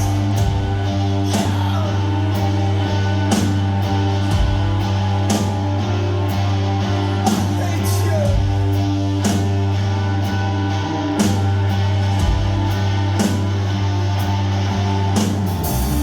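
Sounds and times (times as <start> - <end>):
distorted electric guitars: 0.0 - 16.0
sustained bass: 0.0 - 16.0.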